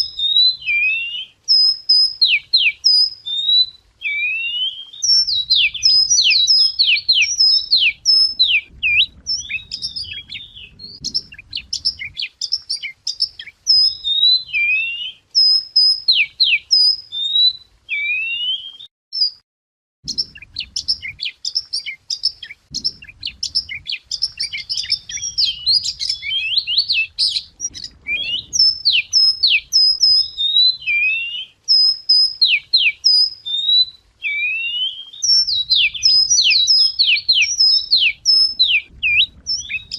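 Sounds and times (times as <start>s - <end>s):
bird song of chirps and whistles: 0.0s - 19.4s, 20.0s - 39.9s.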